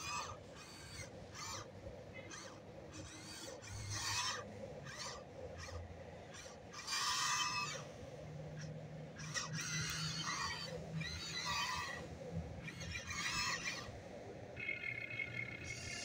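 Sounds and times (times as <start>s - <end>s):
electric gear motors whining: 0.0s - 16.0s.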